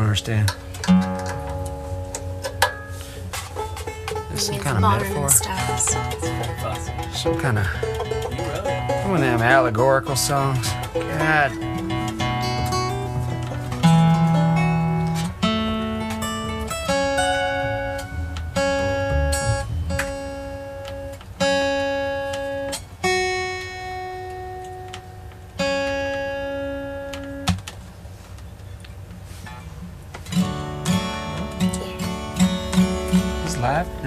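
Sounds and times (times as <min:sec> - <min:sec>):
acoustic guitar strumming: 0:00.0 - 0:28.2, 0:29.0 - 0:34.0.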